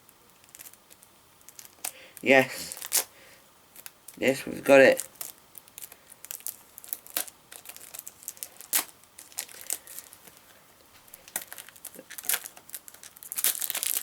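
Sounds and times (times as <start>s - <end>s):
plastic wrapping being torn open: 0.3s - 3.1s, 4.9s - 10.4s, 11.1s - 14.0s.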